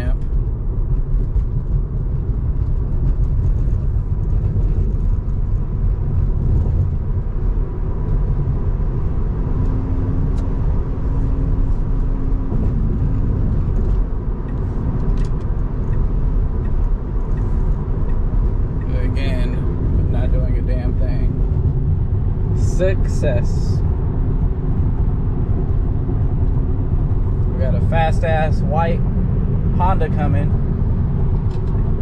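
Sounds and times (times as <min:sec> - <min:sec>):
road and tyre noise in car: 0:00.0 - 0:32.0.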